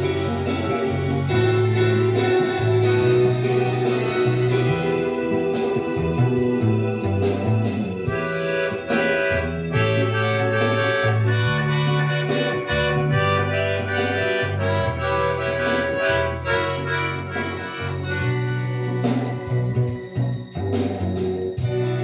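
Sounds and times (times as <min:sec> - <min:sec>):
accordion playing: 0:00.0 - 0:22.0.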